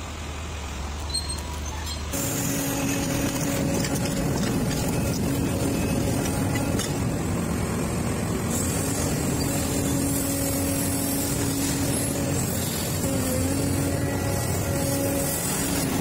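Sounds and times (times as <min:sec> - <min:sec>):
excavator diesel engine drone: 0:00.0 - 0:16.0.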